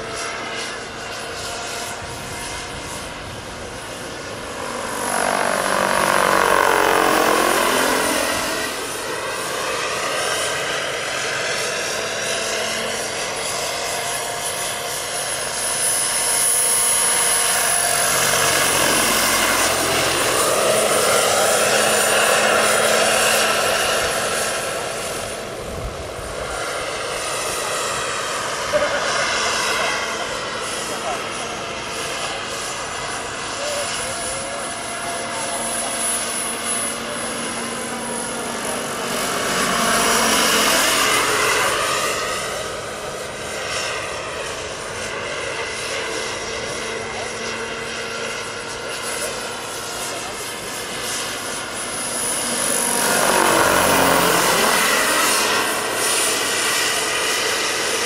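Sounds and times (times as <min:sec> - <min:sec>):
model helicopter turbine whine: 0:00.0 - 0:58.0.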